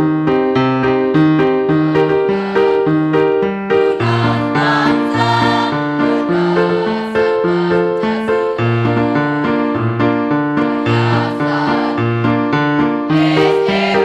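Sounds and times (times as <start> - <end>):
keyboard playing march chords: 0.0 - 14.0.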